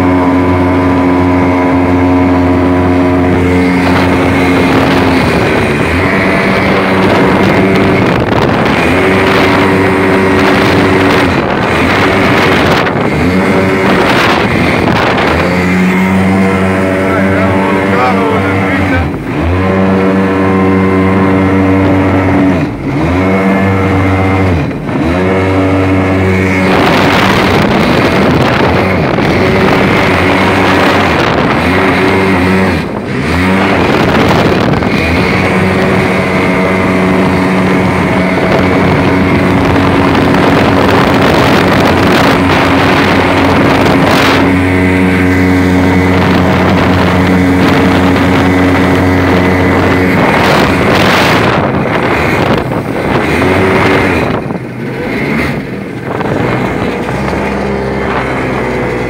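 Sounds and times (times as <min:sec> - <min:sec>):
jet ski engine running: 0:00.0 - 0:59.0
rush of water and wind: 0:00.0 - 0:59.0.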